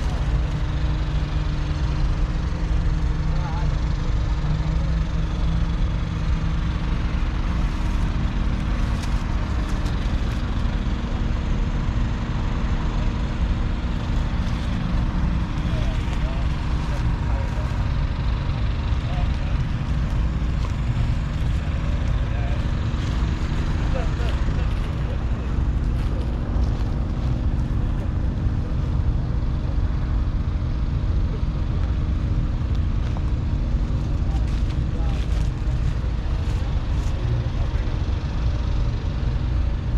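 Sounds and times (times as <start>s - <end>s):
diesel tractor engine rumbling: 0.0s - 39.9s.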